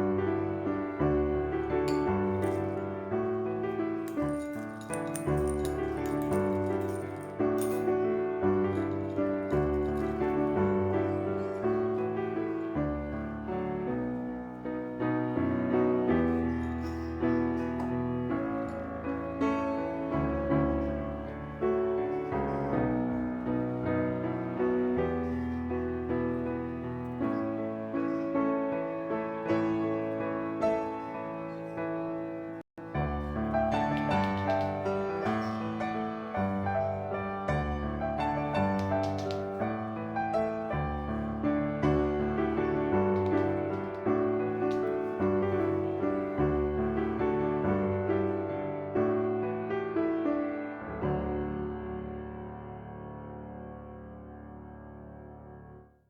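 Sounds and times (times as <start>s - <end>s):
gentle piano tune: 0.0s - 56.0s.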